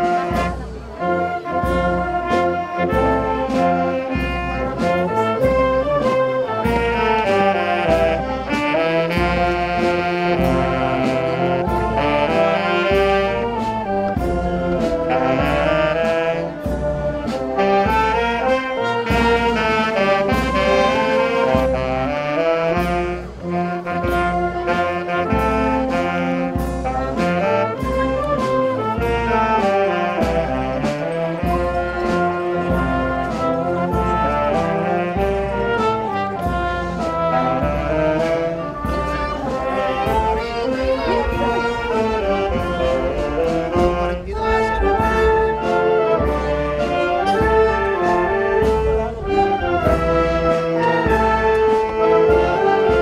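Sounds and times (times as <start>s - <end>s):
wind band playing a hymn: 0.0s - 53.0s.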